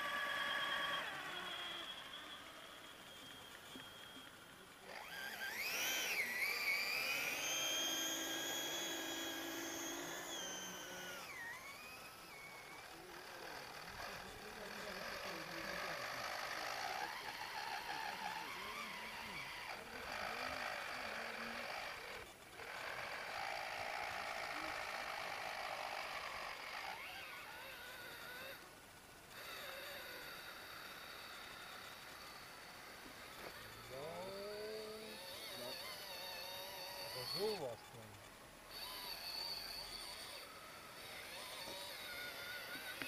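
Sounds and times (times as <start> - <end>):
electric motor whining: 0.0 - 43.0.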